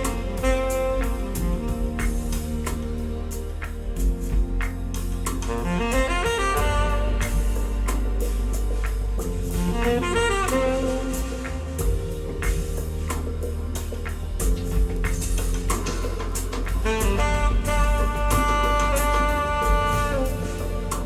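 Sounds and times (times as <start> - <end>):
steady bass and drums: 0.0 - 21.0.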